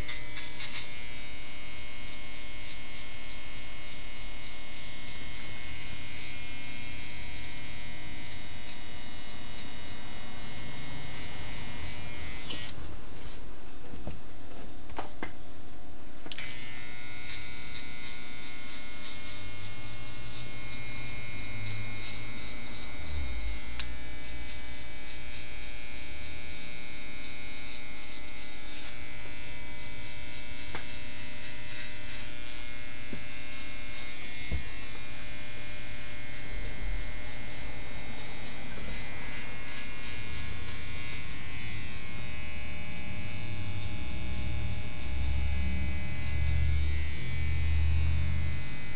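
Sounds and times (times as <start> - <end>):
electric hair trimmer buzzing: 0.0 - 13.4, 16.2 - 48.9.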